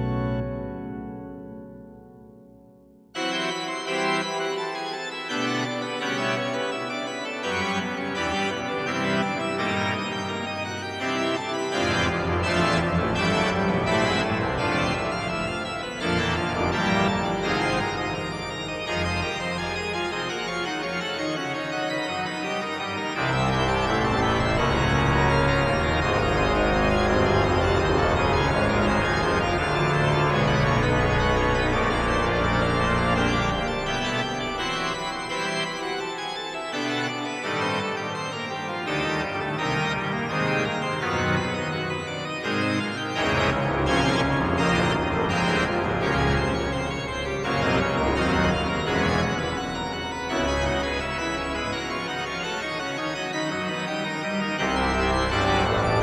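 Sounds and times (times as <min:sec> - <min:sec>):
organ pedal bass: 0:00.0 - 0:02.0, 0:03.2 - 0:56.0
organ chords: 0:00.0 - 0:56.0.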